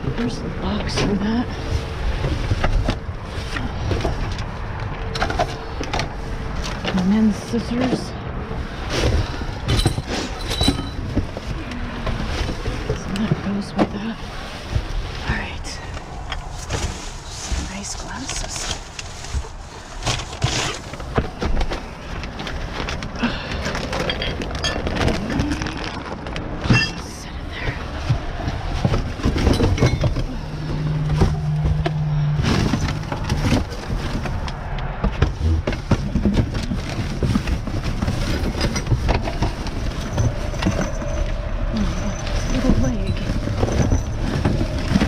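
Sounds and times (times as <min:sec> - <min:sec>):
items clattering together: 0:00.0 - 0:07.1, 0:08.9 - 0:45.0
plastic bags rustling: 0:00.0 - 0:45.0.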